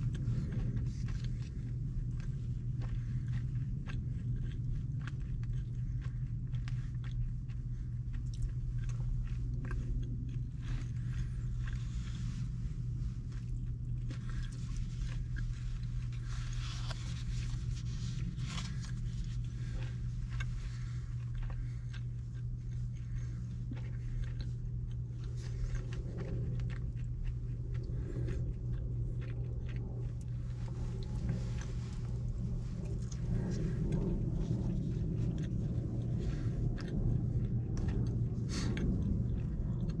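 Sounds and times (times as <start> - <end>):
person chewing food: 0.0 - 40.0
steady low hum: 0.0 - 40.0.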